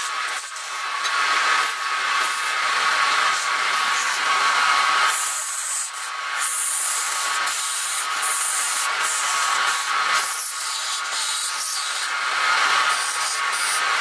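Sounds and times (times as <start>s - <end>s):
lathe motor whine: 0.0s - 14.0s
turning tool scraping wood: 0.0s - 14.0s.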